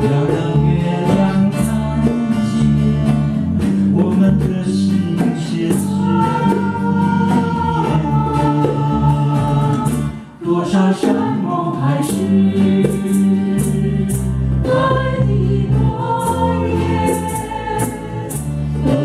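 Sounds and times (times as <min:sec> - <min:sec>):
acoustic guitar: 0:00.0 - 0:19.0
vocal group singing in harmony: 0:00.0 - 0:19.0.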